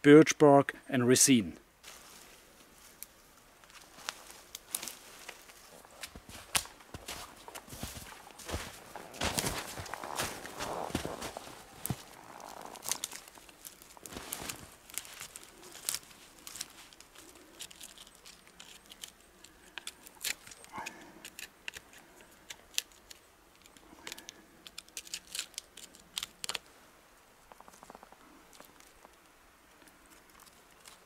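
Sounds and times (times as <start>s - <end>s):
brushwood and bark crinkling: 1.8s - 31.0s
dry twigs snapping: 3.0s - 26.7s, 27.6s - 31.0s.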